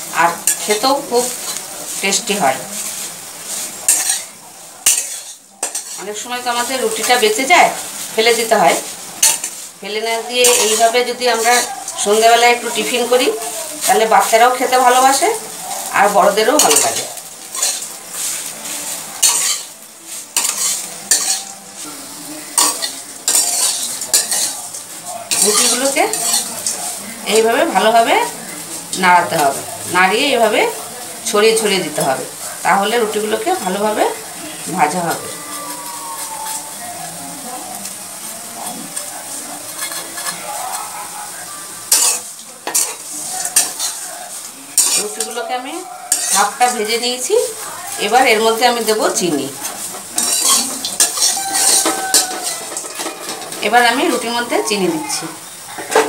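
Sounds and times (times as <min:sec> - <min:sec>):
ghee sizzling: 0:00.0 - 0:56.0
metal spatula scraping a pan: 0:00.3 - 0:30.6, 0:38.6 - 0:41.2, 0:41.9 - 0:54.9.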